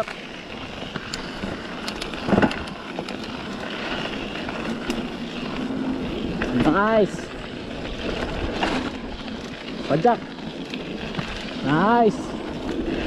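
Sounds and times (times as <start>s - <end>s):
bike clicks and rattles: 0.0s - 13.0s
bike tyres crunching on gravel: 0.0s - 13.0s.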